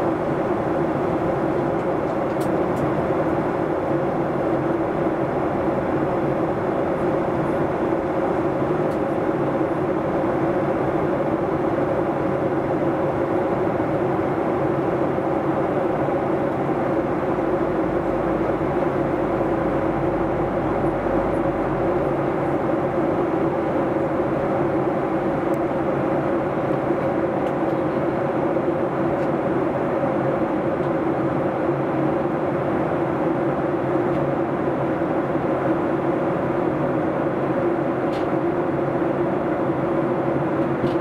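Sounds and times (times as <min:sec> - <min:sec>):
jet engine hum: 0:00.0 - 0:41.0.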